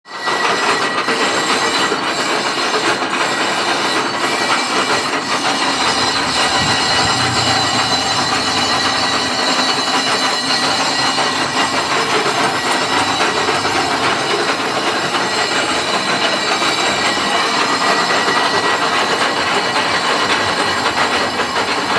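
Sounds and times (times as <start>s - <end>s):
machine tool grinding metal: 0.3s - 21.9s.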